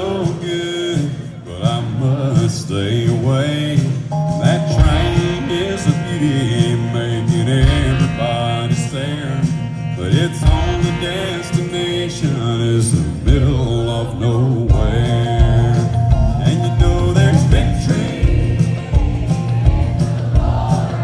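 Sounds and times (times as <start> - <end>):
band bass beat: 0.0 - 21.0
man singing deep voice: 0.0 - 21.0
strummed acoustic guitar: 0.0 - 21.0.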